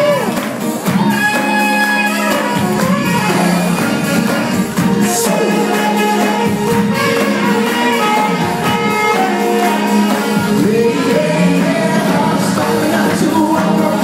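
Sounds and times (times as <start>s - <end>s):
saxophone playing long notes: 0.0s - 11.8s
live band music: 0.0s - 14.0s.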